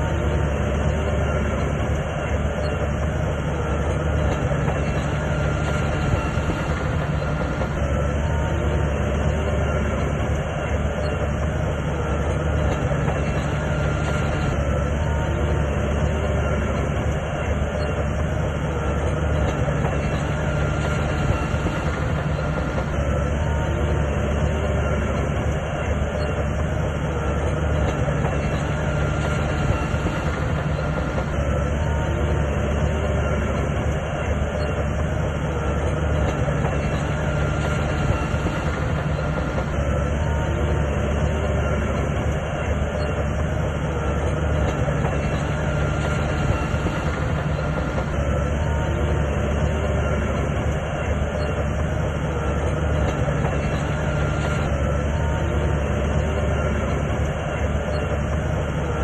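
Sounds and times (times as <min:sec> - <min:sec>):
diesel engine humming: 0:00.0 - 0:59.0
steel tracks clattering: 0:00.0 - 0:59.0.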